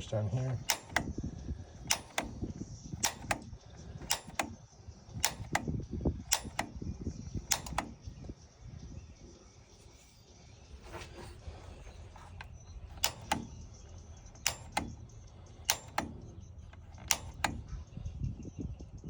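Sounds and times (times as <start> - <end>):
piezo igniter clicking: 0.0 - 8.4, 10.8 - 18.4.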